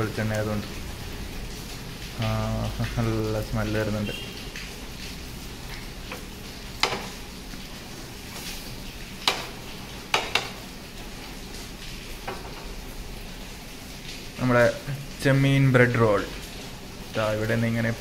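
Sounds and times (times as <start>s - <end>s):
bread frying in oil: 0.0s - 18.0s.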